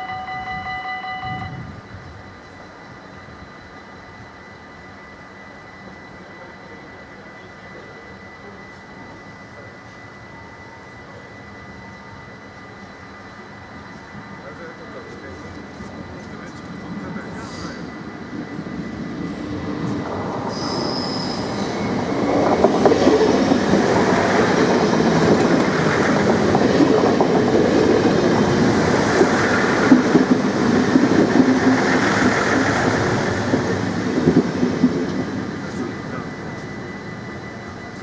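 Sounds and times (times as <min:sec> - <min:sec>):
high squeal: 0:00.0 - 0:30.9, 0:35.4 - 0:38.0
train wheels rumbling on rails: 0:05.0 - 0:38.0.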